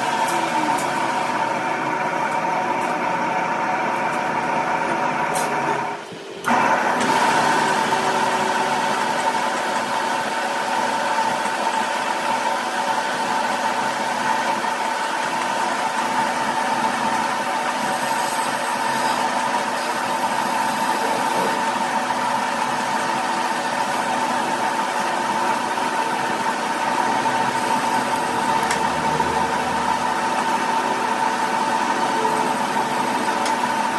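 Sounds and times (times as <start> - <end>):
workshop machine humming: 0.0 - 33.9.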